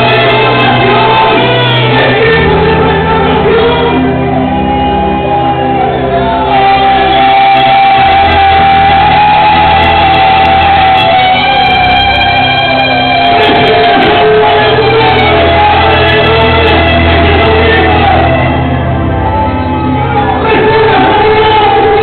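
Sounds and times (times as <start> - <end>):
worship band with pulsing bass: 0.0 - 22.0.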